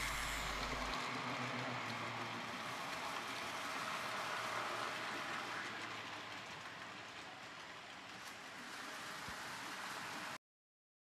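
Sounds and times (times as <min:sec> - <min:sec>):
model train wheels whirring on rails: 0:00.0 - 0:10.4.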